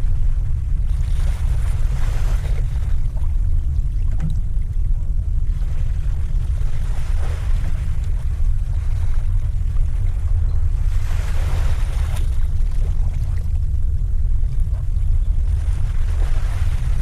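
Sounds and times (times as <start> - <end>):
sea water washing: 0.0 - 17.0
wind rumbling on microphone: 0.0 - 17.0.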